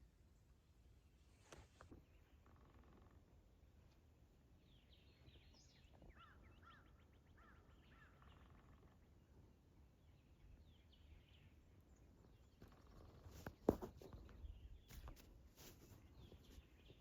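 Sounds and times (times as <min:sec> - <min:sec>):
faint songbirds singing: 0:01.8 - 0:17.0.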